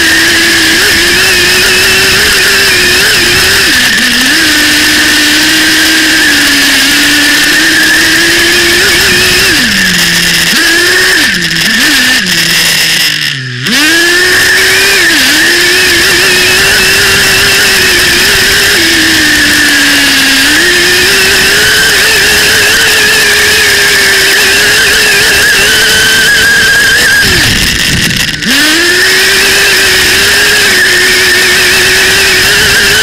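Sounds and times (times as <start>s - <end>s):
small engine revving: 0.0s - 33.0s.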